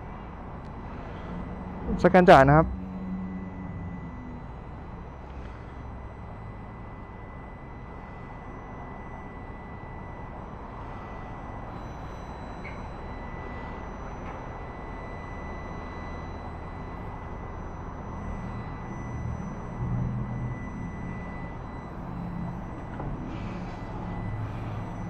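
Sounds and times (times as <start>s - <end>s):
low steady rumble: 0.0s - 25.0s
small electric fan whirring: 0.0s - 25.0s
thin steady whine: 0.0s - 25.0s.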